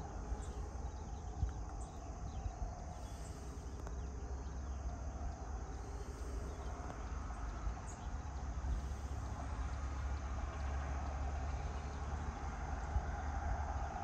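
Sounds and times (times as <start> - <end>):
constant low rumble: 0.0 - 14.0
crickets chirping: 0.0 - 14.0.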